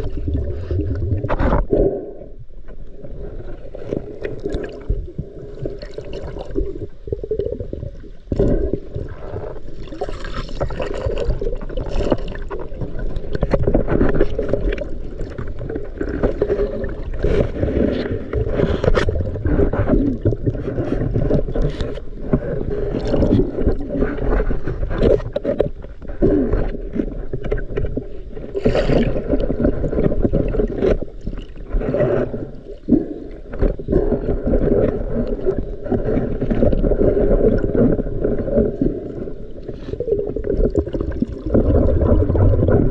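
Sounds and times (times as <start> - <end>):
muffled water sloshing: 0.0 - 42.9.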